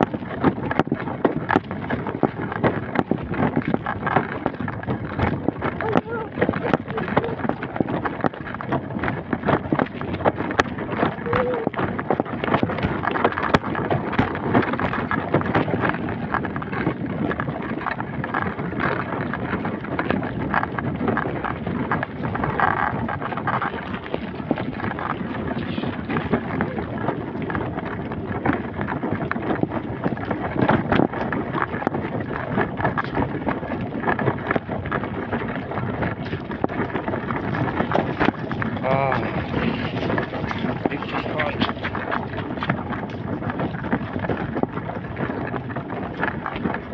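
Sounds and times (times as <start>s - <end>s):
small crackles and knocks: 0.0s - 46.9s
wind buffeting microphone: 0.0s - 46.9s.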